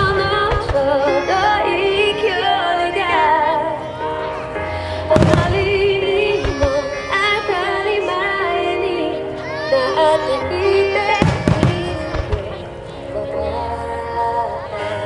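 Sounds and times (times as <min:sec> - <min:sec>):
song with female vocal: 0:00.0 - 0:15.0.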